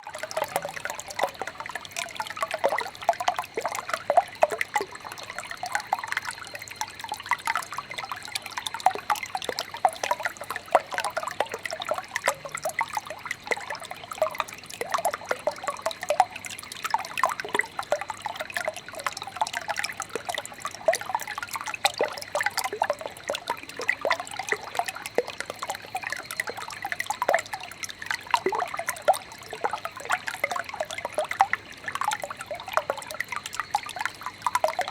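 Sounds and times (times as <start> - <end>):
brook trickling and babbling: 0.0 - 34.9.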